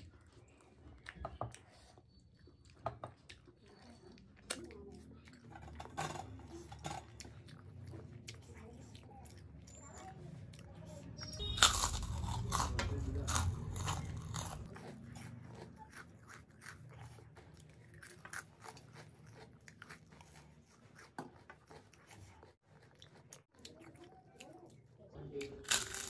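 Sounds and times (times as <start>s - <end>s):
crunching and chewing of food: 0.0s - 26.0s.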